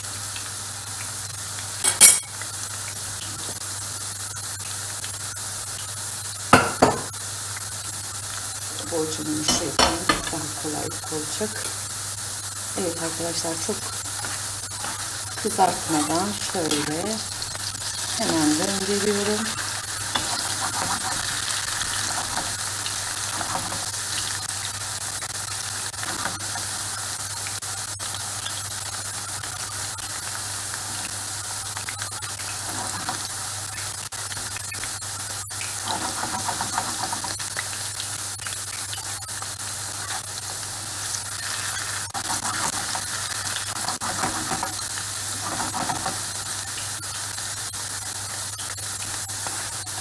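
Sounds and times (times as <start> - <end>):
potatoes sizzling in oil: 0.0 - 50.0
spatula stirring in a pan: 6.5 - 50.0.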